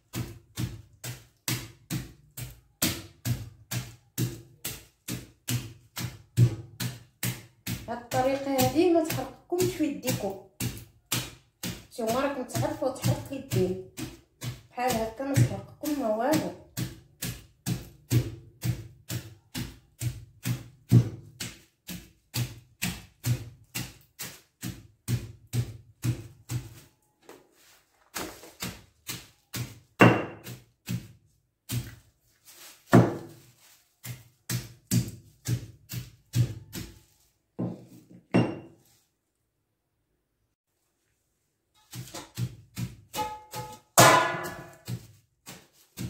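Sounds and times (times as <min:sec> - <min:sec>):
pestle pounding garlic: 0:00.0 - 0:26.9, 0:28.1 - 0:38.7, 0:41.8 - 0:46.0.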